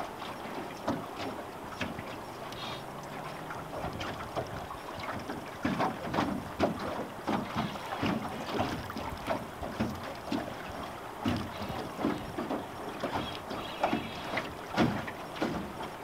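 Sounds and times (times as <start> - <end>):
river water slapping boat hull: 0.0 - 16.0.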